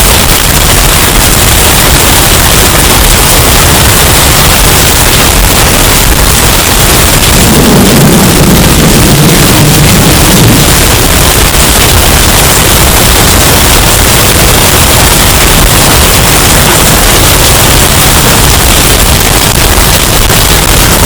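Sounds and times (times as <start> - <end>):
distorted hurricane wind: 0.0 - 21.0.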